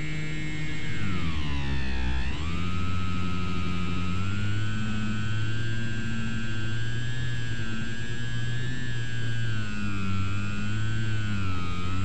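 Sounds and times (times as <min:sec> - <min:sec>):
model plane electric motor whining: 0:00.0 - 0:12.0.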